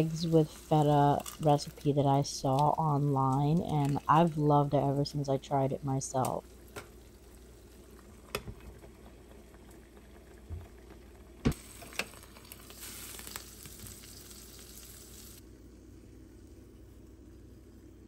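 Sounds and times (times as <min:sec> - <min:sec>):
eggs sizzling in oil: 0:00.0 - 0:15.4.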